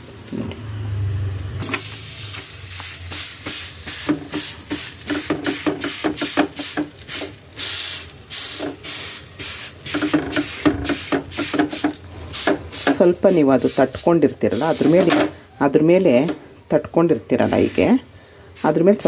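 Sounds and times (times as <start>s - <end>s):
dough hissing on hot pan: 1.6s - 15.5s, 17.4s - 19.0s.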